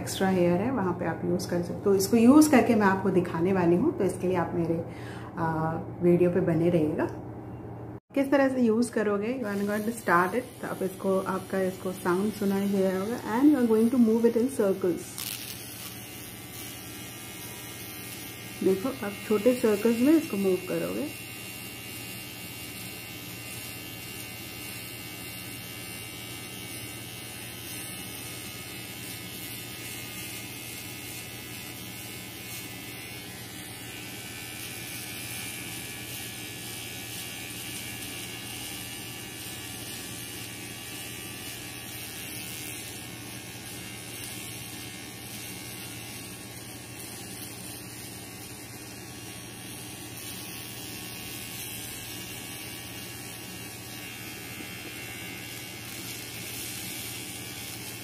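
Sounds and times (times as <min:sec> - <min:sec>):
electric trimmer buzzing: 0:08.7 - 0:58.0.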